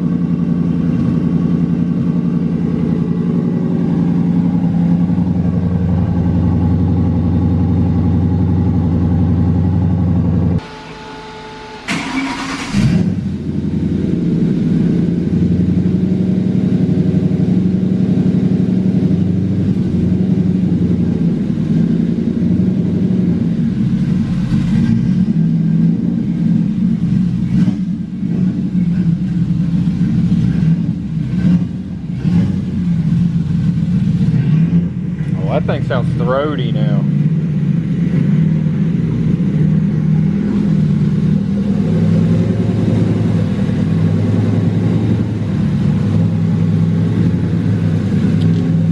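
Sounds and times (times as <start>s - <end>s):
car engine starting and idling: 0.0s - 48.9s.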